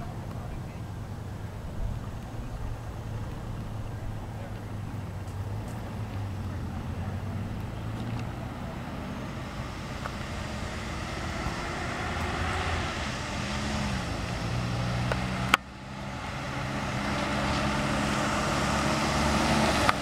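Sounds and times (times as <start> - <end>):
pickup truck engine running: 0.0 - 20.0
road noise: 0.0 - 20.0.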